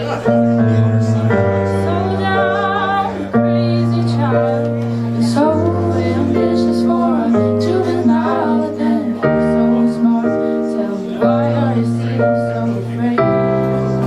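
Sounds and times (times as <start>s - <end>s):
sustained keyboard chords: 0.0s - 14.0s.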